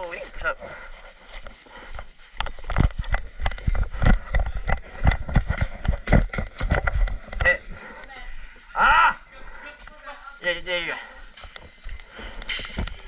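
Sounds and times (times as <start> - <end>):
gear and microphone jostling: 0.0 - 13.0
running footsteps: 0.0 - 13.0.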